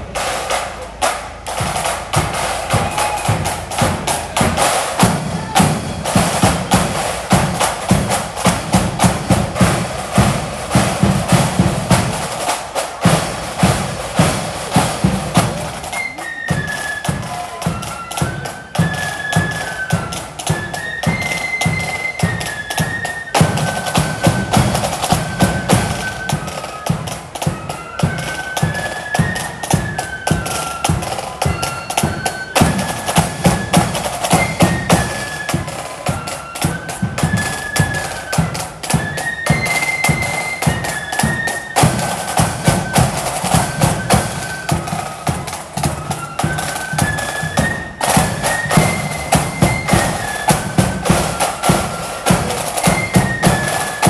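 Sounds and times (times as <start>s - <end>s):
flutes playing tune: 0.0s - 54.0s
marching drums beating: 0.0s - 54.0s.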